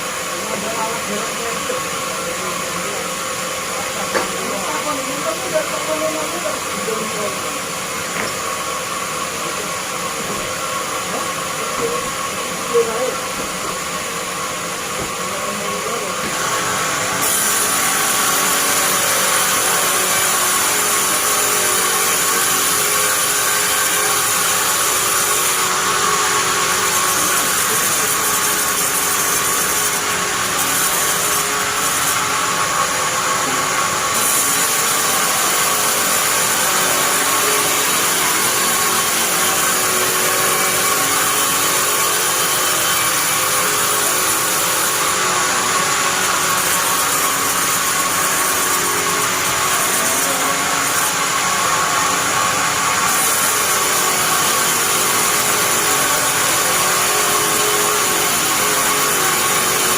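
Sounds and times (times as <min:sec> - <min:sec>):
bandsaw whining: 0:00.0 - 0:59.9.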